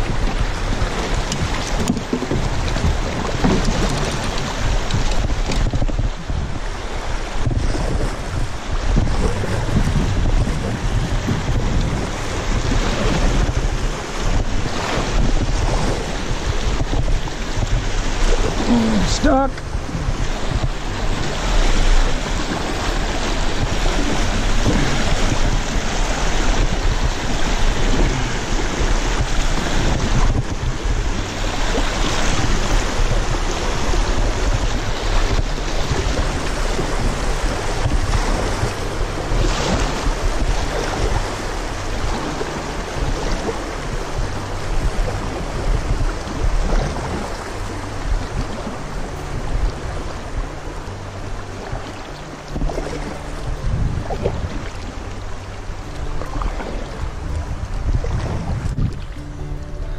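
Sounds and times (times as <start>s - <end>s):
river water rushing and splashing: 0.0s - 59.9s.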